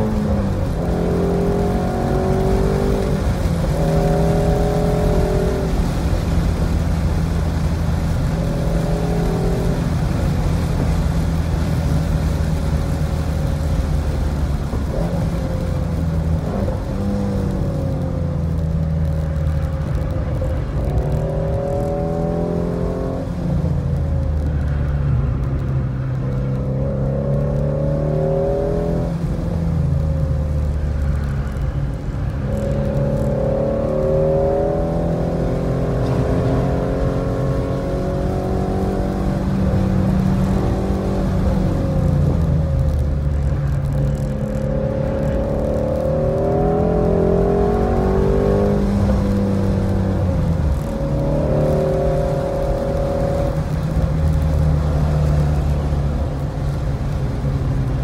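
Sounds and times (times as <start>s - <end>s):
car engine revving through gears: 0.0s - 31.6s, 32.3s - 58.0s.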